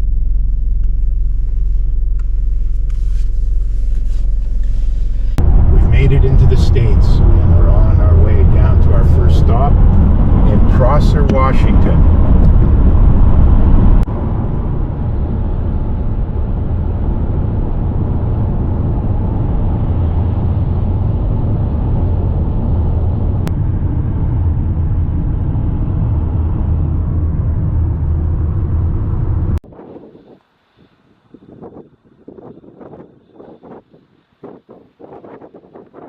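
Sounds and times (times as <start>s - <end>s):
car road and engine rumble: 0.0s - 29.8s.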